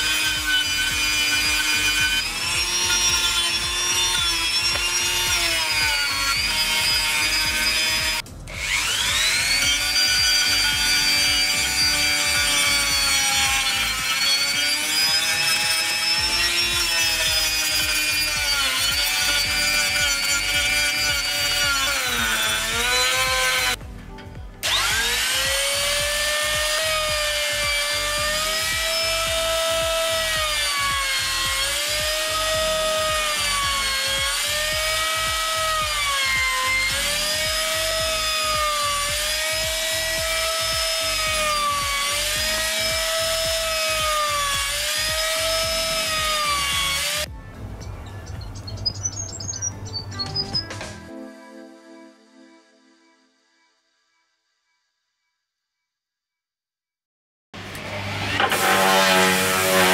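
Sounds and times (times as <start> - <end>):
trim router cutting wood: 0.0 - 23.8, 24.6 - 47.3, 57.6 - 59.9
rotary tool grinding wood: 0.0 - 47.3, 57.6 - 59.9.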